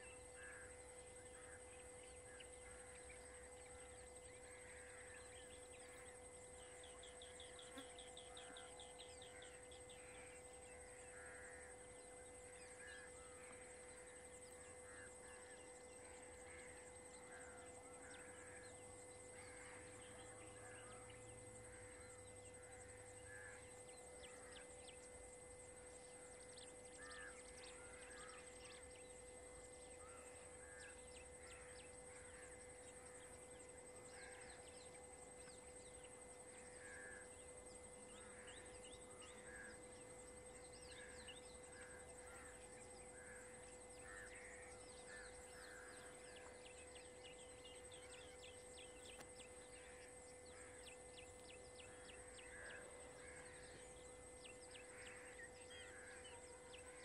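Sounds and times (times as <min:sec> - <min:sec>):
faint background hiss and hum: 0:00.0 - 0:57.0.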